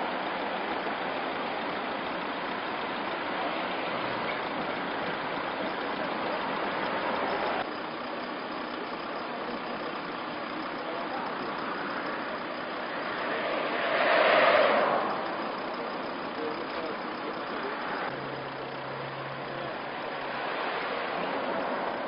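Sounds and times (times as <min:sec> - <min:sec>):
vehicle engine noise: 0:00.0 - 0:22.0.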